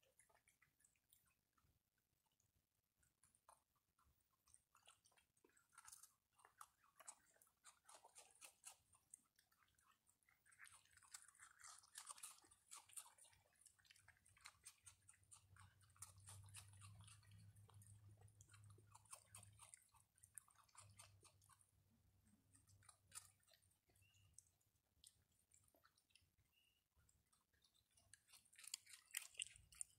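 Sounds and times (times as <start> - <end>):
animals crunching dry food: 0.0 - 29.9.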